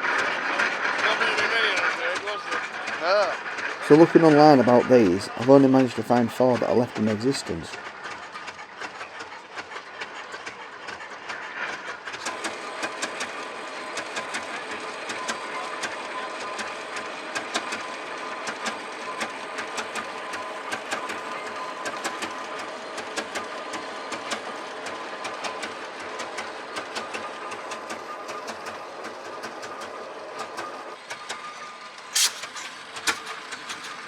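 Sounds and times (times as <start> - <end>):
engine running with mechanical clatter: 0.0 - 34.0.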